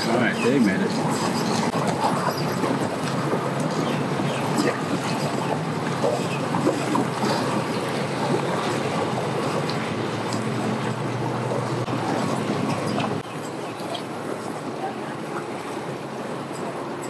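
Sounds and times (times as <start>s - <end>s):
water churning: 0.0s - 17.0s
watercraft engine idling: 0.0s - 17.0s.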